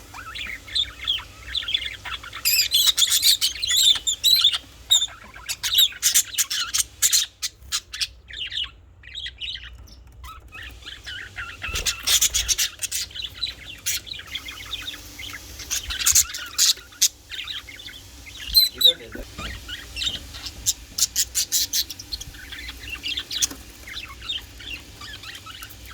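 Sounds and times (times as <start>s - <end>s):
budgerigars chirping: 0.0s - 25.9s.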